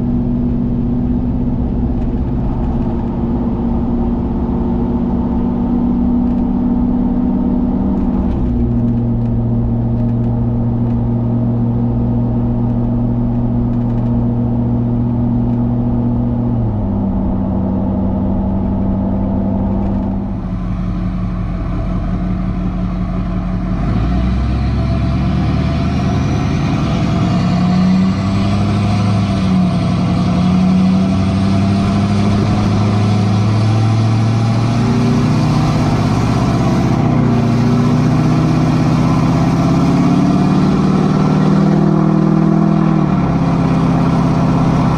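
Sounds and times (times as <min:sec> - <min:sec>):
diesel truck engine accelerating: 0:00.0 - 0:44.9.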